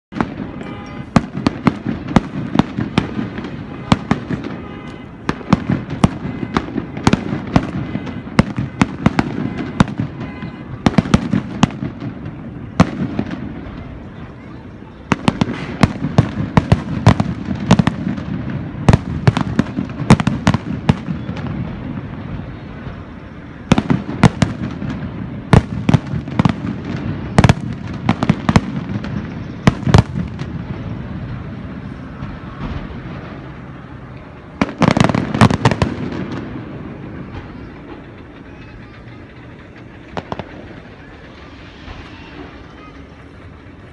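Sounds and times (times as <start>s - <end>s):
fireworks bursting with booms: 0.1s - 38.1s, 39.7s - 43.0s
rumbling echoes: 0.1s - 43.9s.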